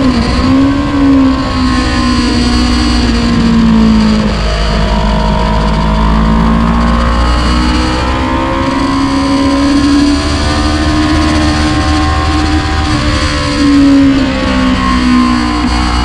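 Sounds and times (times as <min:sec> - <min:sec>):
motorcycle engine revving high: 0:00.0 - 0:16.0
wind rush: 0:00.0 - 0:16.0.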